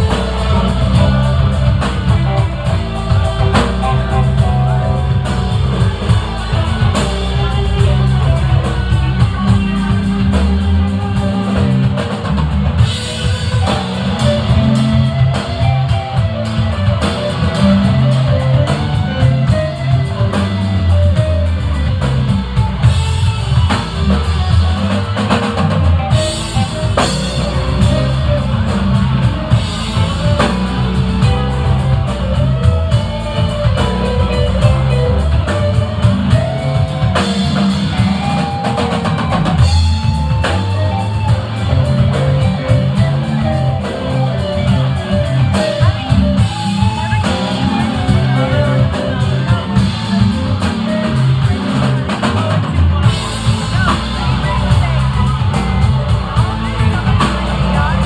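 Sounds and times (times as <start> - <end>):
bass guitar: 0.0 - 58.0
drum kit: 0.0 - 58.0
electric guitars: 0.0 - 58.0
lead guitar line: 0.0 - 58.0.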